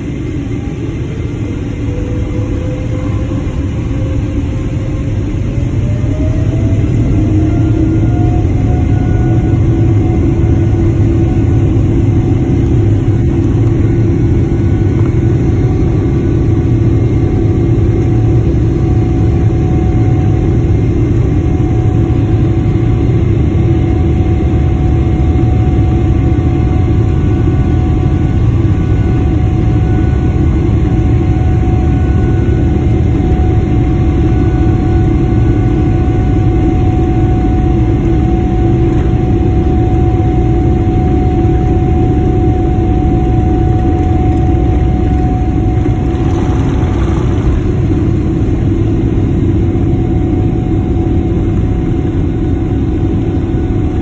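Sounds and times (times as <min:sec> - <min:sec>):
jet engines rumbling with whine: 0:00.0 - 0:54.0.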